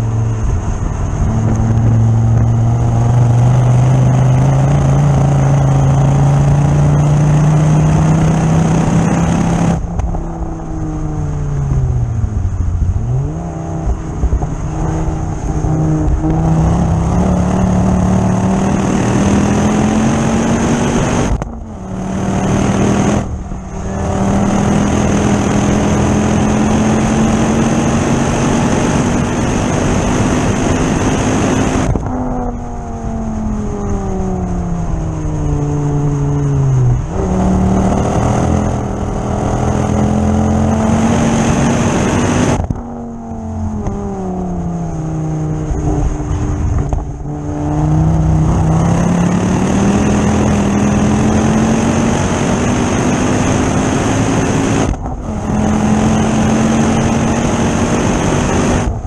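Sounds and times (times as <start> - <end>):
car engine under acceleration: 0.0 - 59.0.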